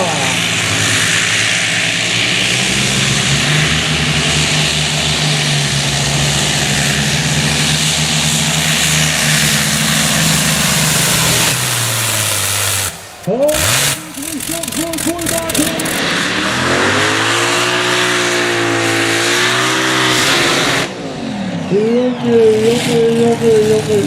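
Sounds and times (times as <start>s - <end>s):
tractor engines at high revs: 0.0s - 24.0s.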